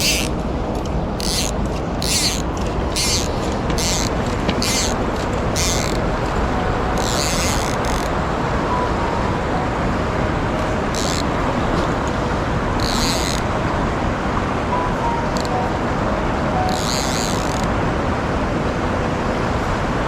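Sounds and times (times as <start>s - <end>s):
mountain stream flowing: 0.0s - 16.7s.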